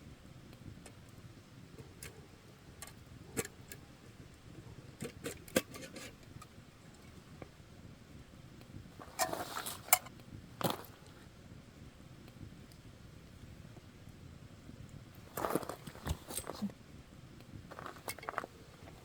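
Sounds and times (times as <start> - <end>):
campfire crackling and popping: 0.1 - 16.6, 17.3 - 19.0.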